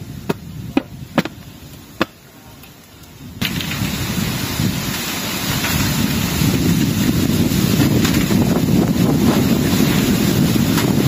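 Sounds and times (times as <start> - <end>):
wind buffeting microphone: 0.0 - 2.2, 2.8 - 11.0
strong wind through trees: 0.0 - 11.0.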